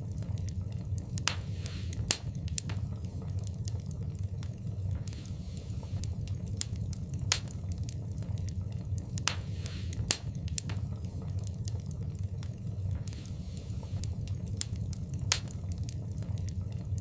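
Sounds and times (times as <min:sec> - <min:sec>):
fire crackling and popping: 0:00.0 - 0:17.0
fire hiss: 0:00.0 - 0:17.0
low fire rumble: 0:00.0 - 0:17.0.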